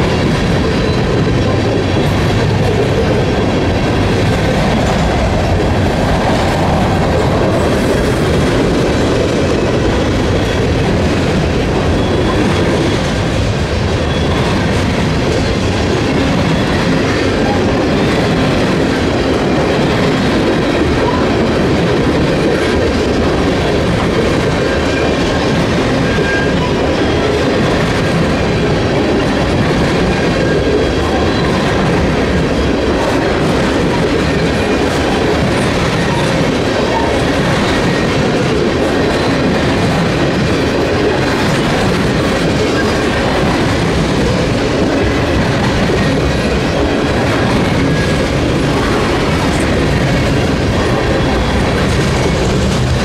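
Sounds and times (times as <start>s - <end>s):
wheels on rails: 0.0s - 53.0s.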